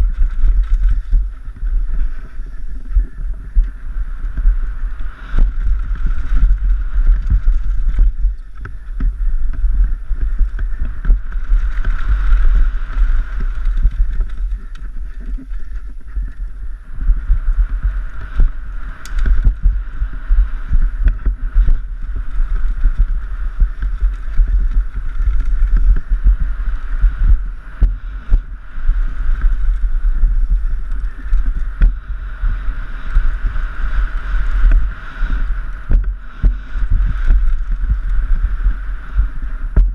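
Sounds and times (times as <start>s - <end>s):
bike knocking and rattling: 0.0s - 39.9s
wind buffeting camera: 0.0s - 39.9s.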